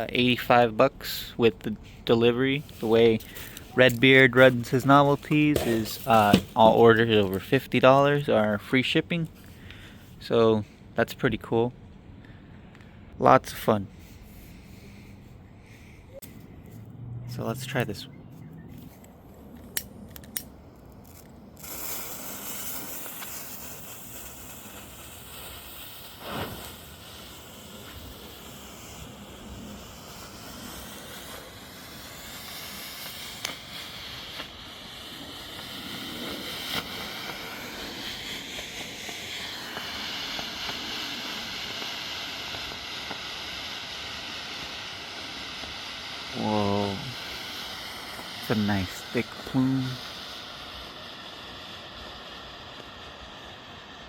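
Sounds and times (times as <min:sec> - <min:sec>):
smoke stick hissing: 0:00.0 - 0:10.2, 0:18.8 - 0:54.0.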